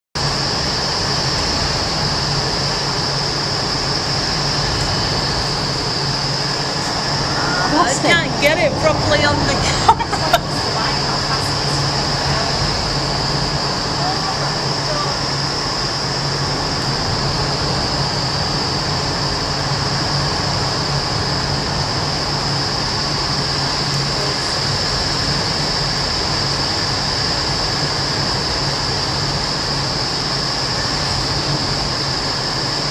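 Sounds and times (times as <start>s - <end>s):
wind tunnel air roaring: 0.2s - 32.9s.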